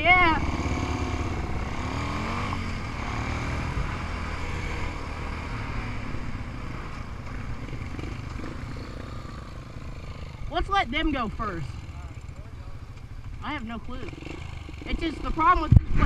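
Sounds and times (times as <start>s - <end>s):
off-road engine idling: 0.0s - 5.0s, 6.0s - 16.0s
engine revving: 0.0s - 16.0s.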